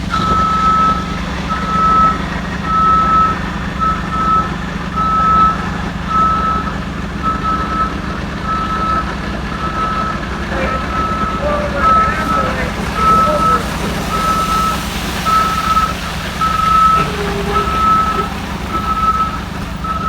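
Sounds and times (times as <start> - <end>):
truck engine hum: 0.0 - 20.0
truck reversing alarm beeping: 0.0 - 20.0.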